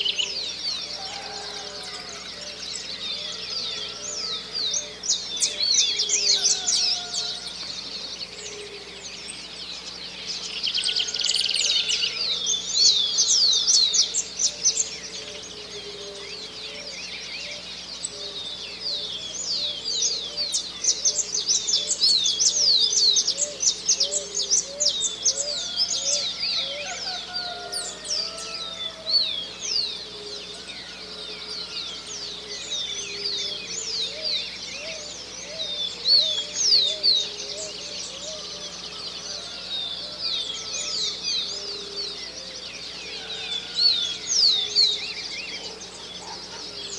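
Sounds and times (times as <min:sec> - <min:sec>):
birds chirping and trilling: 0:00.0 - 0:46.9.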